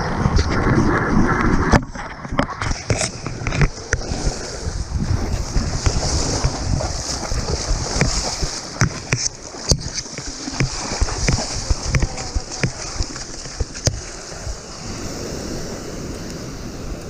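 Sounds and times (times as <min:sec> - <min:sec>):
wind buffeting microphone: 0:00.0 - 0:17.0
surf hissing: 0:02.8 - 0:17.0.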